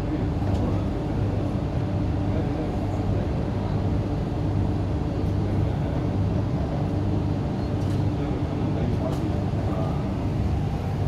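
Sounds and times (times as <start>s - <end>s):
train interior rumble and hum: 0.0s - 11.0s.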